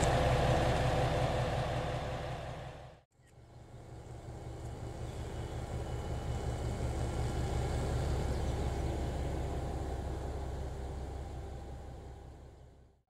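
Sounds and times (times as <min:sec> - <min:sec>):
diesel railcar engine idling: 0:00.0 - 0:13.0.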